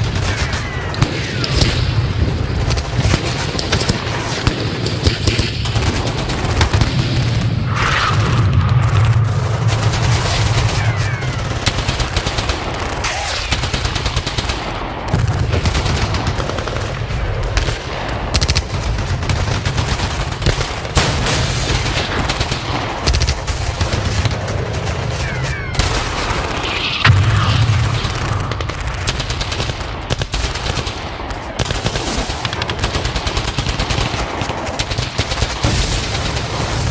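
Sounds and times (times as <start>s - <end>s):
steady low rumble: 0.0s - 13.0s, 13.7s - 30.3s
rapid overlapping gunfire: 0.0s - 36.9s.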